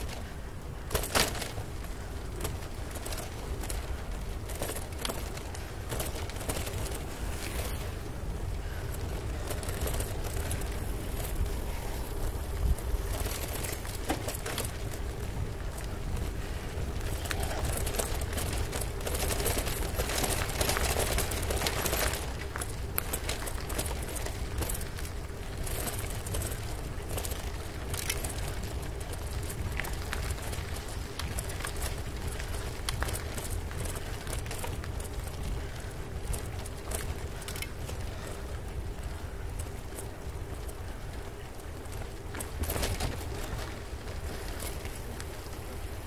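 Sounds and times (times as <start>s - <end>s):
bicycle tyre noise: 0.0s - 46.0s
bike clicks and rattles: 0.0s - 46.0s
wind on microphone: 5.4s - 46.0s.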